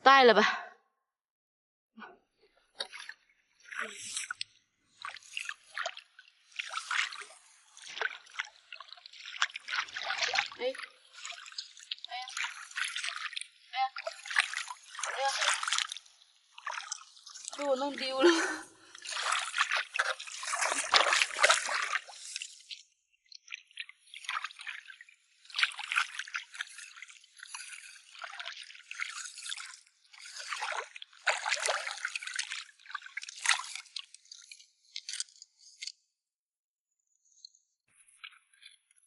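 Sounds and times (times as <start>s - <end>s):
water splashing and sloshing: 2.5s - 36.1s.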